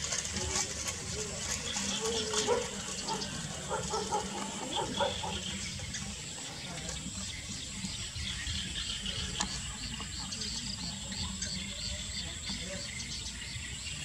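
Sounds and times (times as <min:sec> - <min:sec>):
hiss-like outdoor background noise: 0:00.0 - 0:14.0.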